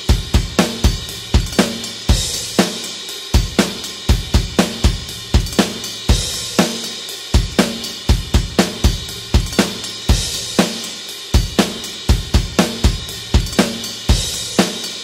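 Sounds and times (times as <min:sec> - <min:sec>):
rock drum beat: 0:00.0 - 0:15.0.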